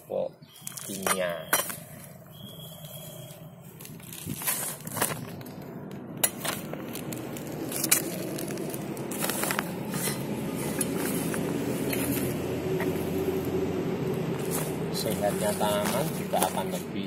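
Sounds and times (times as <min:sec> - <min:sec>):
vehicle engine hum: 0:01.6 - 0:17.0.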